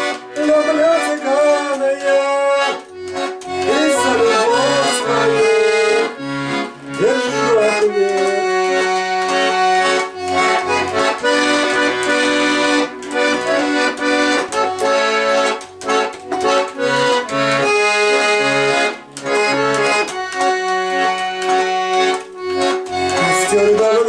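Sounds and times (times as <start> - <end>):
accordion playing chords and bass: 0.0 - 24.0.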